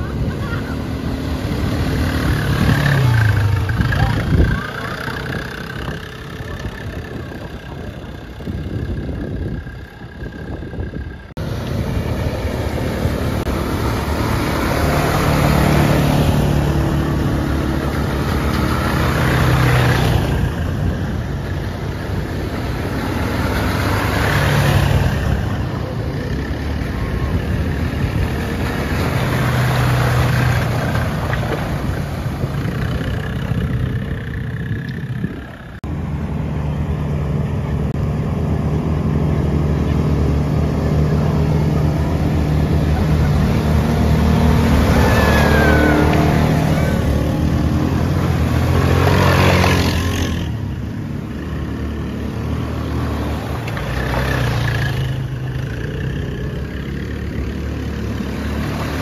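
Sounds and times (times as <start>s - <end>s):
quad engines revving: 0.0s - 59.0s.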